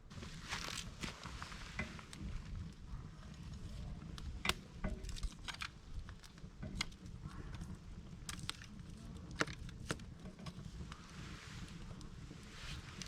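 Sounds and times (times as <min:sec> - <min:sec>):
campfire crackling: 0:00.0 - 0:13.0
low steady rumble: 0:00.0 - 0:13.0.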